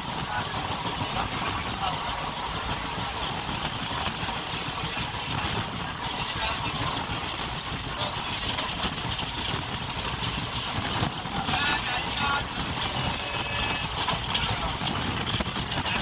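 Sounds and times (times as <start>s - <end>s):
train coach rumble: 0.0s - 16.0s.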